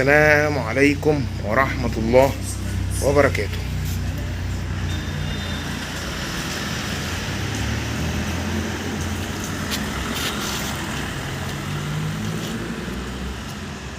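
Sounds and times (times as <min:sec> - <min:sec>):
traffic hiss: 0:00.5 - 0:13.9.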